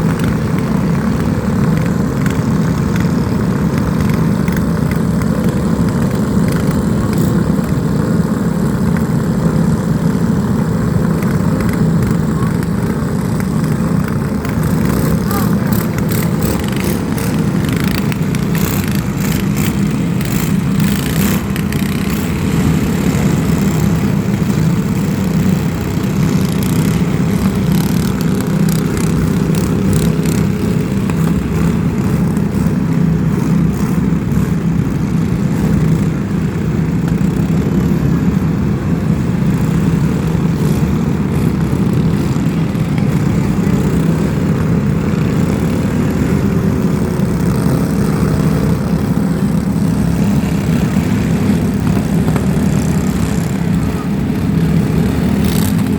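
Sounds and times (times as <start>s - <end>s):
vehicle engine drone: 0.0s - 55.9s.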